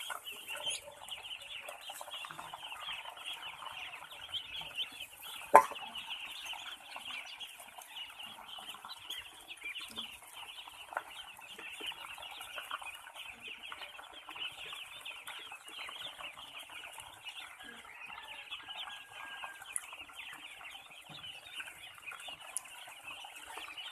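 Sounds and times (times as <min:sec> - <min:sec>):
ducklings peeping: 0:00.0 - 0:23.9.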